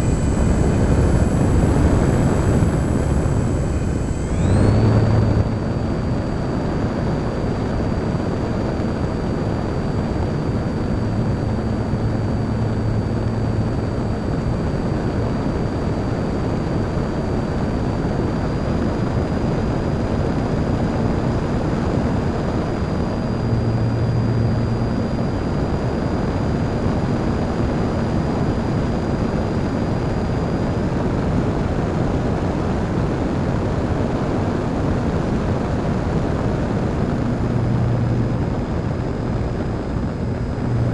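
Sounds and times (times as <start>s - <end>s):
electric motor whine: 0.0s - 31.2s, 31.9s - 40.9s
low propeller hum: 0.0s - 40.9s.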